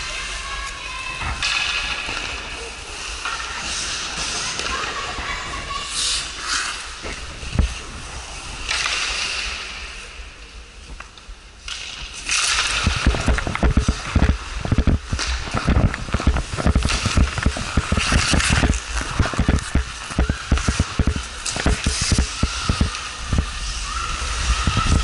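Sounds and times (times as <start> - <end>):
skate blades scraping ice: 0.0 - 10.2, 11.0 - 25.0.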